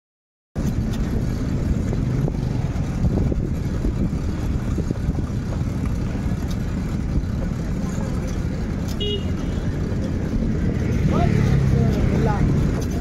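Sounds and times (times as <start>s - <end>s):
vehicle engines rumbling: 0.6s - 13.0s.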